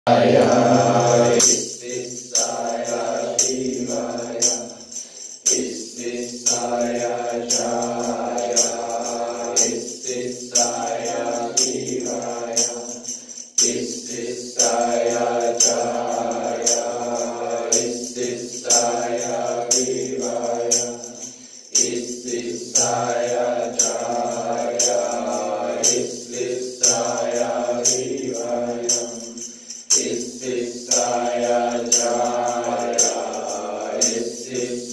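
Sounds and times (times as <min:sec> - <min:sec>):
jingling percussion beat: 0:00.1 - 0:34.9
long held vocal tones: 0:00.1 - 0:34.9.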